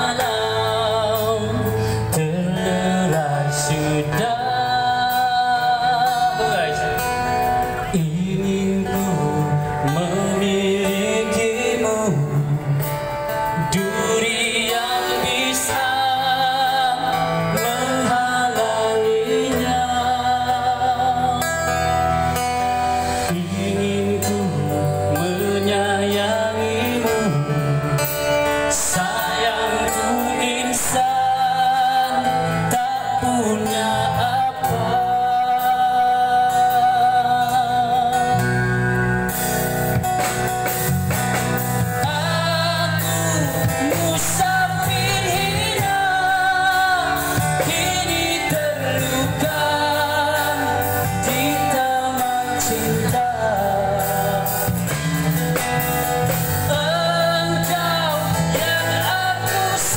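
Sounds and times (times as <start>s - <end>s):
man singing through microphone: 0.0s - 59.9s
rock band with amplified guitars: 0.0s - 59.9s.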